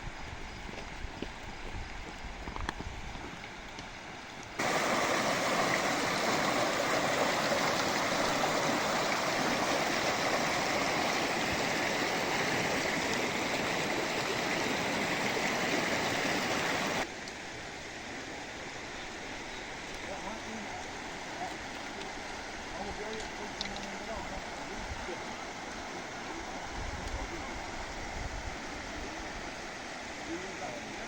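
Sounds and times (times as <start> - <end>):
flowing water rushing: 3.4 - 31.0.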